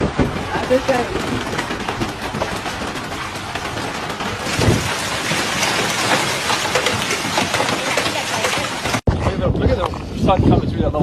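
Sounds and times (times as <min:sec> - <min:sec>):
hail and rain pelting: 0:00.0 - 0:09.1.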